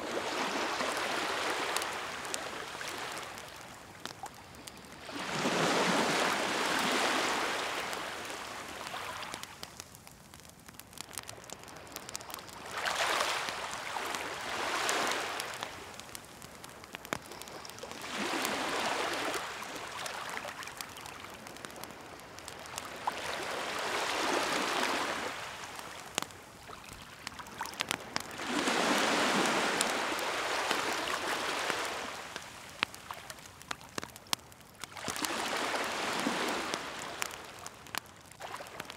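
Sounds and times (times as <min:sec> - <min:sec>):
waves washing on shore: 0:00.0 - 0:10.0, 0:11.0 - 0:34.2, 0:34.8 - 0:38.9
wood fire crackling: 0:00.1 - 0:38.9.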